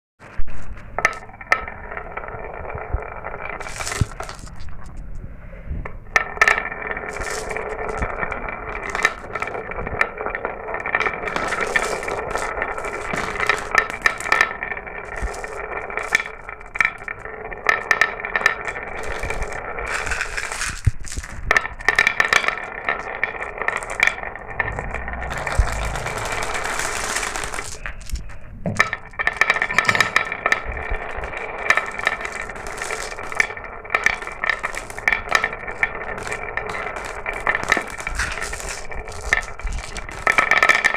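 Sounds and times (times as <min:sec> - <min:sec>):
glass marbles rolling on track: 0:00.6 - 0:40.9
marbles clicking: 0:00.8 - 0:05.3, 0:05.9 - 0:40.9.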